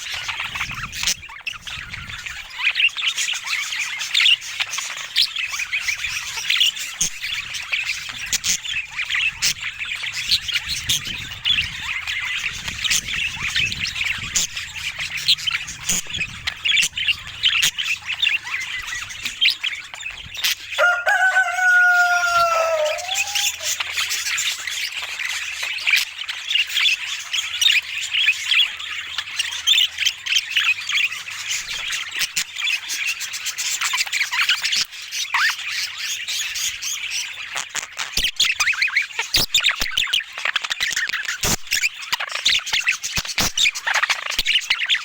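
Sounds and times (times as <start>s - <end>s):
budgerigars chattering: 0.0s - 45.0s.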